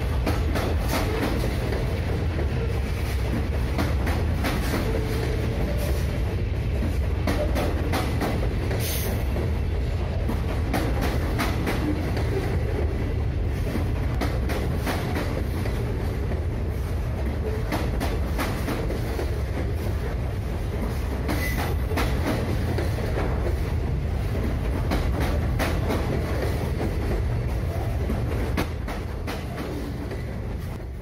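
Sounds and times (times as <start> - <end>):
model train rumbling: 0.0 - 31.0
wagons clicking on track: 0.0 - 31.0.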